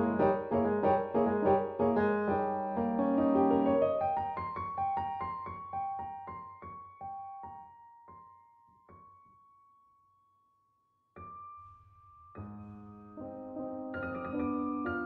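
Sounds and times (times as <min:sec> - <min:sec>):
piano music: 0:00.0 - 0:09.2, 0:11.2 - 0:15.0.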